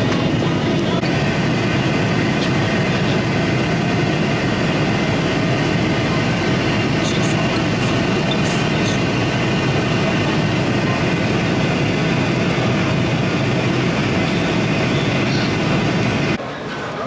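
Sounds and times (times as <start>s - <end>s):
airliner cabin engine rush: 0.0s - 16.4s.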